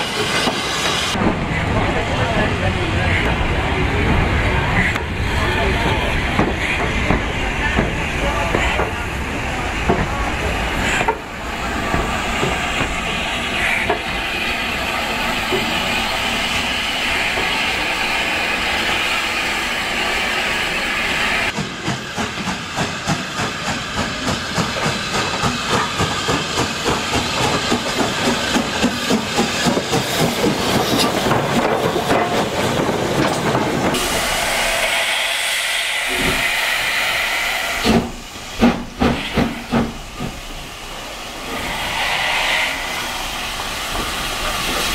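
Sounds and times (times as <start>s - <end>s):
steam hissing: 0.0s - 2.2s, 2.9s - 44.9s
steam locomotive exhaust chuffing: 4.1s - 44.9s.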